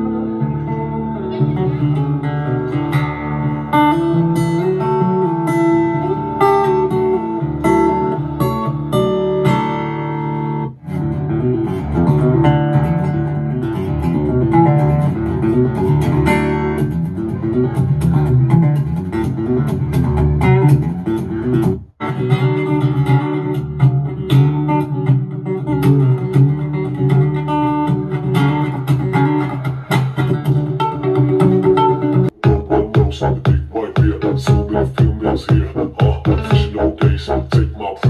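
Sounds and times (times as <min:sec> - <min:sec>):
guitar music through speaker: 0:00.0 - 0:38.0.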